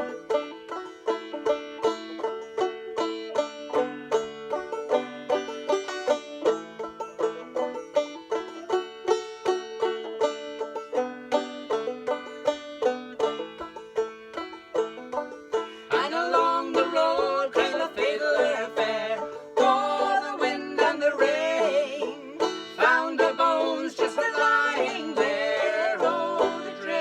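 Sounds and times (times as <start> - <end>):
plucked string instrument picking: 0.0 - 27.0.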